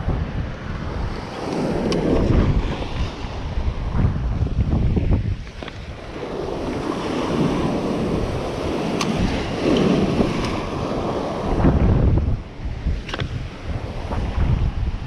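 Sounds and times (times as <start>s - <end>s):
wind buffeting microphone: 0.0s - 15.0s
sea waves washing over rocks: 0.6s - 15.0s.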